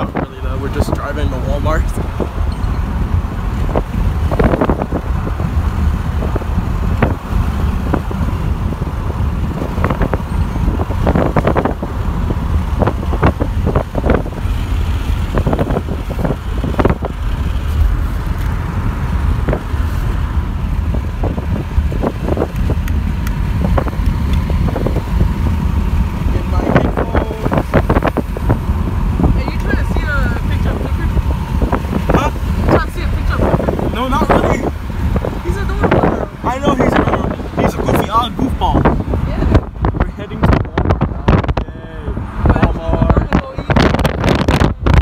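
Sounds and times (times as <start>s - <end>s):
road and engine rumble: 0.0s - 45.0s.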